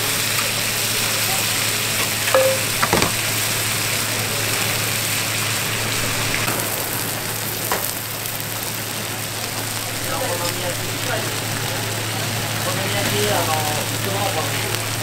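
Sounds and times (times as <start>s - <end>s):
food sizzling on a griddle: 0.0s - 2.2s, 3.8s - 15.0s.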